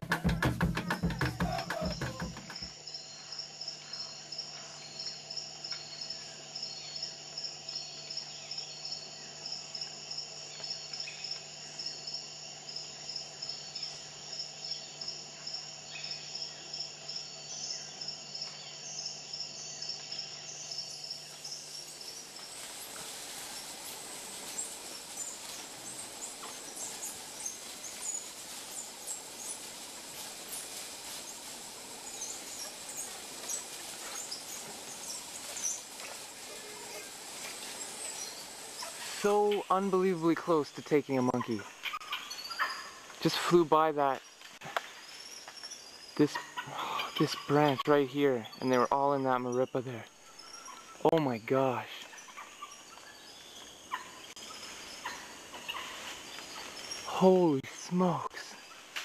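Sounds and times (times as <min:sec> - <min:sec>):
dense hiss with faint ticks: 0:00.0 - 0:46.4, 0:47.0 - 0:59.0
insects trilling: 0:00.2 - 0:59.0.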